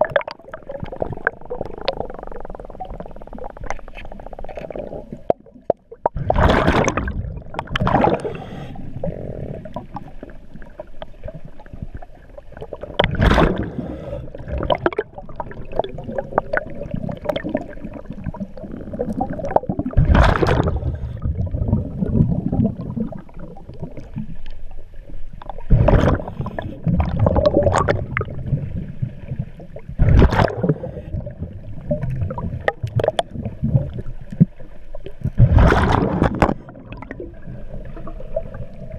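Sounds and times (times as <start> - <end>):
exhaled bubbles underwater: 0.0 - 38.9
low underwater rumble: 0.0 - 38.9
underwater gurgling: 0.0 - 38.9.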